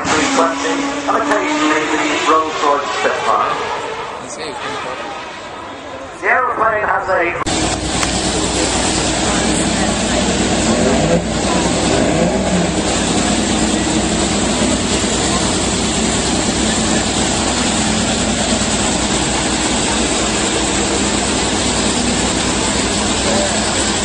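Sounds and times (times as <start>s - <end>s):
jet engines rushing overhead: 0.0s - 24.0s.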